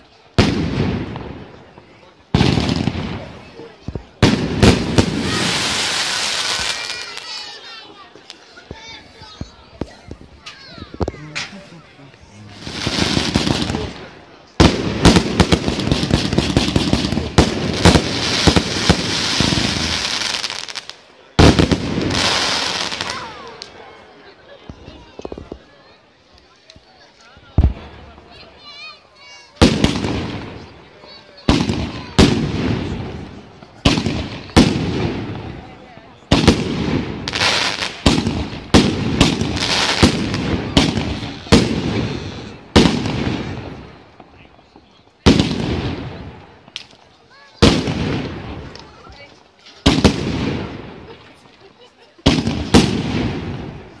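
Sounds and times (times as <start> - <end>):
fireworks bangs: 0.0 - 23.8, 27.4 - 54.0
fireworks crackling: 0.0 - 54.0.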